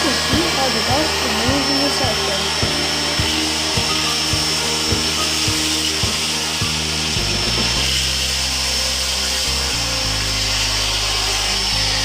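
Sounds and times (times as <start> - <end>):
background music with beat: 0.0 - 12.0
vacuum cleaner running: 0.0 - 12.0.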